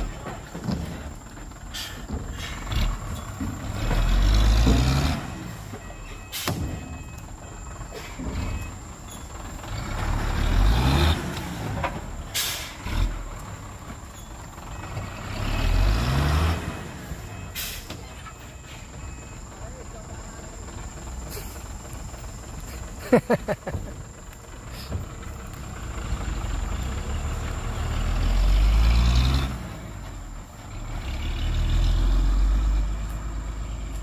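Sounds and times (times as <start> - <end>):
diesel truck engine revving: 0.0 - 6.6, 7.2 - 18.2, 20.5 - 34.0.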